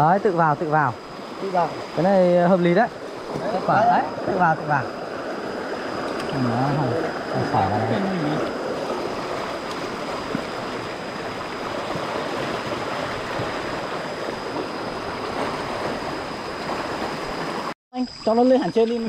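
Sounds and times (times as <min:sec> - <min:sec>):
water rushing down a ditch: 0:00.0 - 0:17.8.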